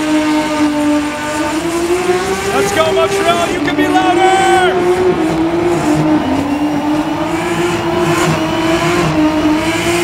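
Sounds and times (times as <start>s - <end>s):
car engine revving high: 0.0s - 10.0s.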